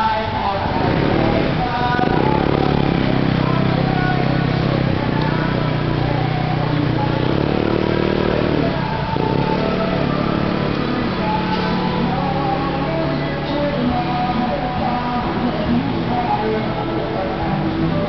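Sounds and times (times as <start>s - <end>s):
vehicle engine running: 0.3s - 18.0s.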